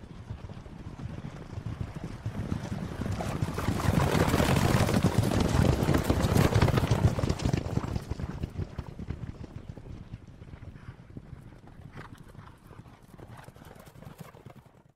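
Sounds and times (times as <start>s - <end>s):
hoofbeats of running horses: 0.0s - 14.9s.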